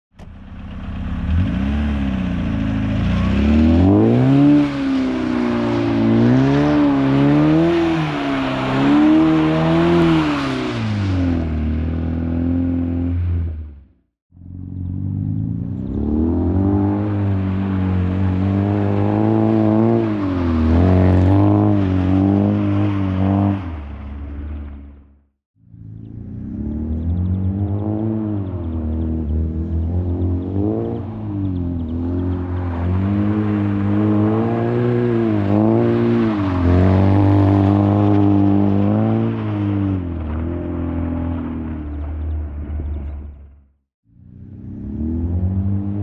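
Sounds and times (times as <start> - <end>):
car engine revving: 0.2 - 46.0.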